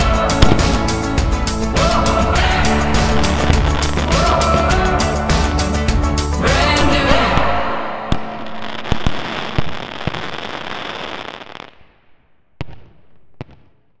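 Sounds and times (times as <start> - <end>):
loud fireworks bangs: 0.0 - 5.6, 7.2 - 14.0
fireworks crackling and popping: 0.0 - 5.8, 8.1 - 14.0.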